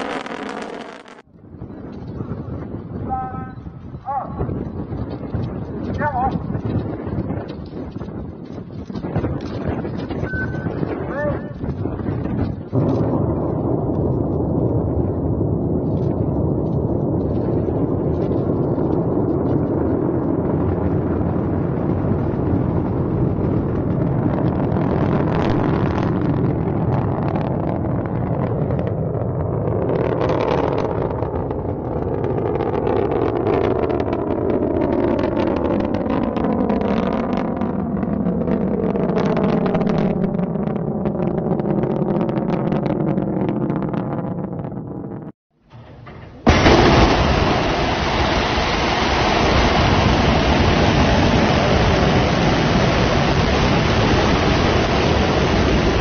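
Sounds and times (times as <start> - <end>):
rocket engines roaring and crackling: 0.0 - 56.0.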